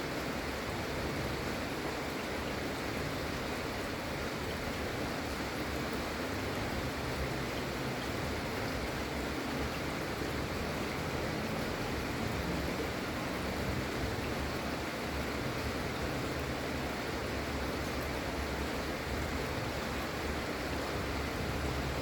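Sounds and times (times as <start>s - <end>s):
gentle steady rain: 0.0s - 22.0s.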